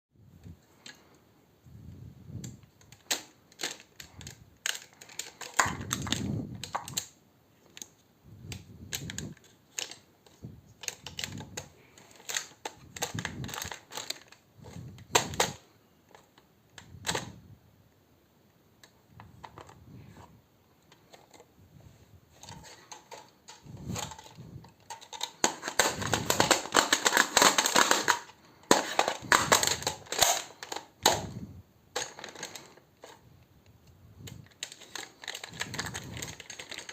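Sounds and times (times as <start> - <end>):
plastic clicks and rattles: 0.4 - 1.2, 2.4 - 17.4, 18.8 - 20.2, 20.8 - 21.5, 22.3 - 36.9.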